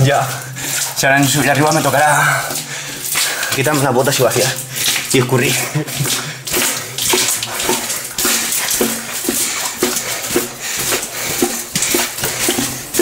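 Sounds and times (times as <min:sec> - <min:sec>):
boots splashing in shallow water: 0:00.0 - 0:13.0.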